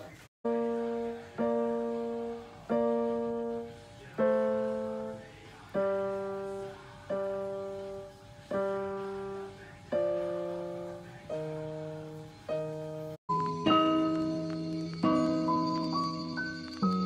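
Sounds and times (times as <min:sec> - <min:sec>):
keyboard piano chords: 0:00.0 - 0:17.0.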